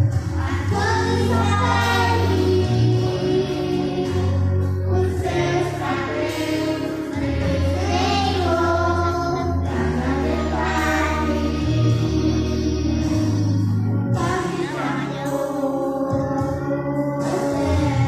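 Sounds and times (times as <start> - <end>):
girls singing into microphones: 0.0 - 18.0
instrumental accompaniment: 0.0 - 18.0.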